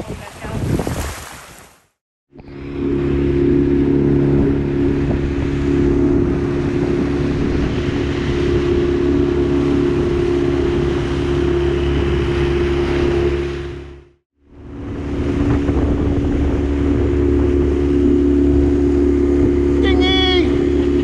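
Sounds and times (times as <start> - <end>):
water rushing: 0.0 - 21.0
wind: 0.0 - 21.0
outboard motor running: 2.3 - 21.0.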